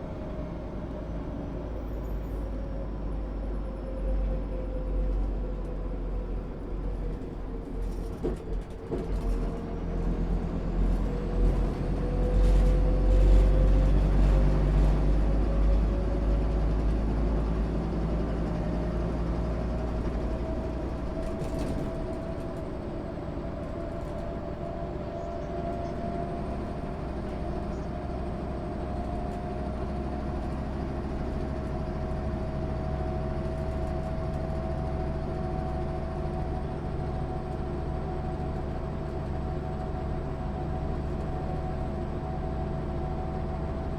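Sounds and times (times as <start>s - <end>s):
bus diesel engine rumble: 0.0s - 43.9s.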